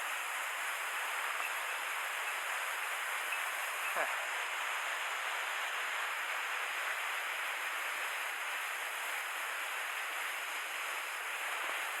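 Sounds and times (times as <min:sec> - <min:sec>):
mountain stream water rushing: 0:00.0 - 0:12.0.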